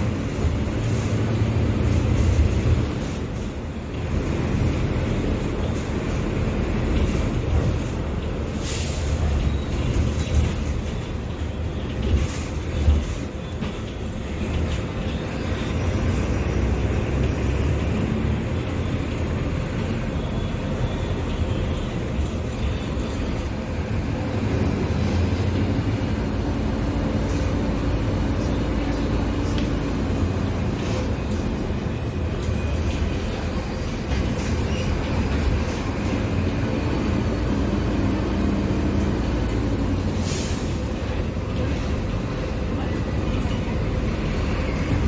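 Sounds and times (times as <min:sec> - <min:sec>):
diesel bus engine running: 0:00.0 - 0:45.0.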